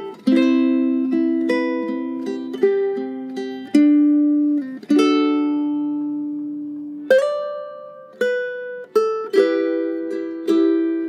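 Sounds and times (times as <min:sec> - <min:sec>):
ukulele fingerpicked: 0:00.0 - 0:11.0.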